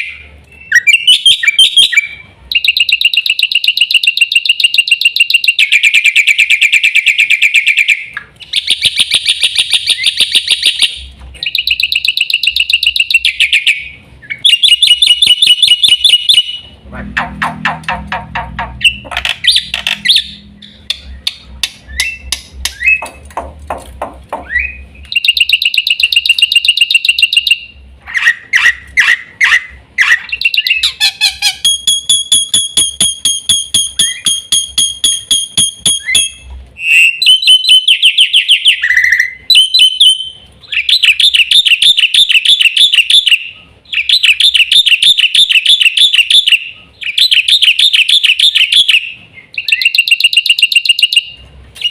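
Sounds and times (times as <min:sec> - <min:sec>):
myna singing trills and clicks: 0:00.0 - 0:23.5, 0:24.4 - 0:51.9.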